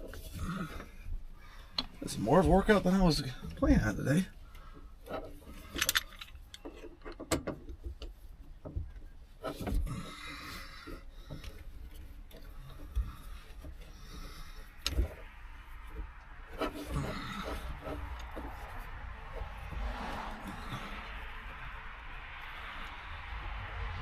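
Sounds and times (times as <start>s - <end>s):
rustling: 0.0s - 23.6s.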